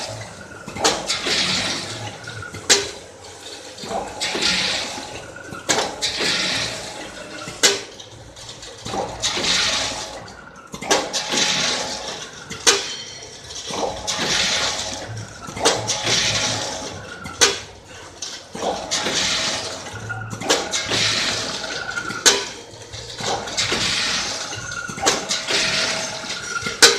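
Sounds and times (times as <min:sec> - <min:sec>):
sharp mechanical clacks: 0:03.6 - 0:26.9.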